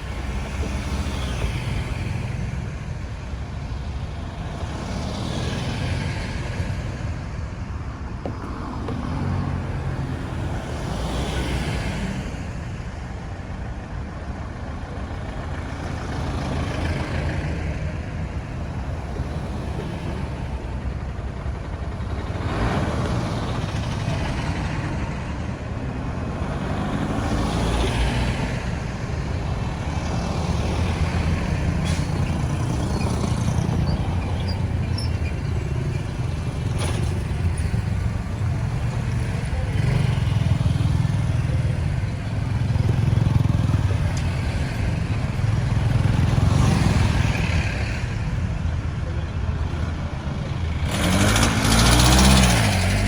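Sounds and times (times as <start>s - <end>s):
vehicles passing by: 0.0s - 53.0s.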